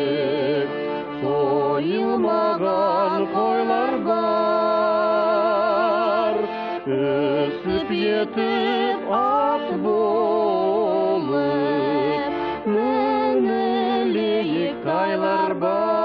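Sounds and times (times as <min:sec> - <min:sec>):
person singing folk song: 0:00.0 - 0:16.0.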